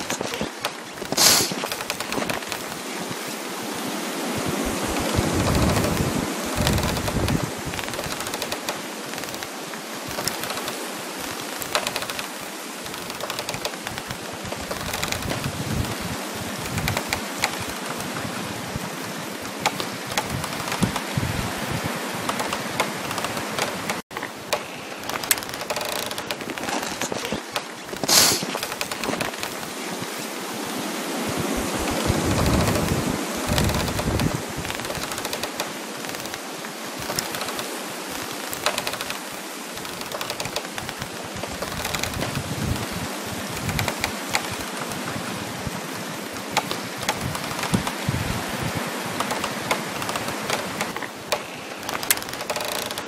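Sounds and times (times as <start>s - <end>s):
frost crackling: 0.0s - 53.0s
wind in trees: 0.0s - 53.0s.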